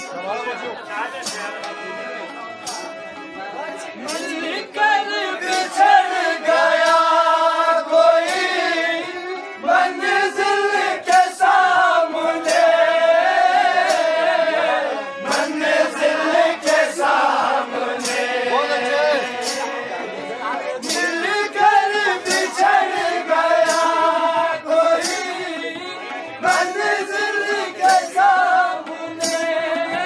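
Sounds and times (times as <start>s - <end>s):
voices singing: 3.8s - 30.0s.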